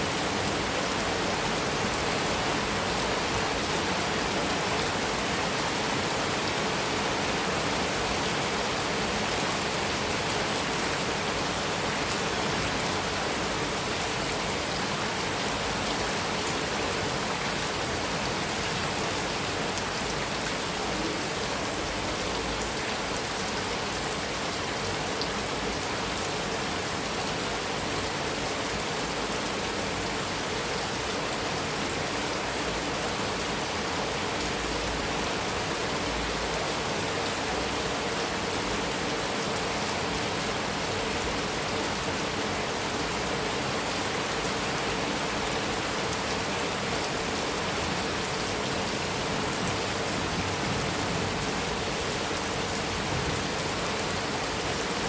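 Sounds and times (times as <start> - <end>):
heavy rain on a metal roof: 0.0 - 55.0.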